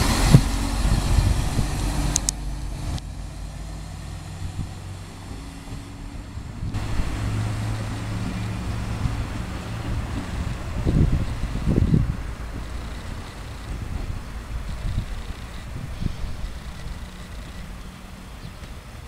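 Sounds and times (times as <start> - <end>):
diesel railcar engine droning: 0.0 - 19.0.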